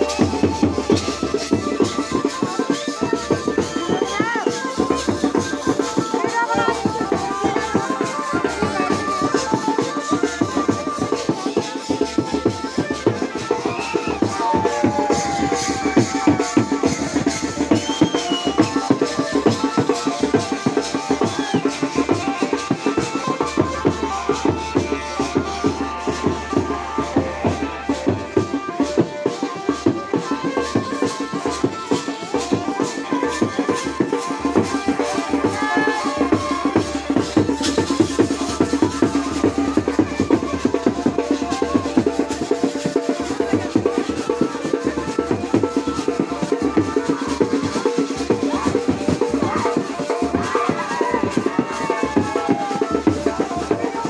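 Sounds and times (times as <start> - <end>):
fast drumming: 0.0 - 54.0
held melodic notes: 0.0 - 54.0.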